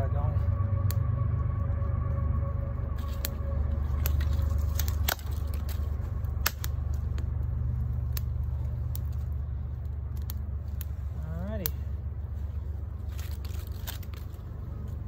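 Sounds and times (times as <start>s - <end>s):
fire crackling and popping: 0.0s - 15.0s
low rumble: 0.0s - 15.0s.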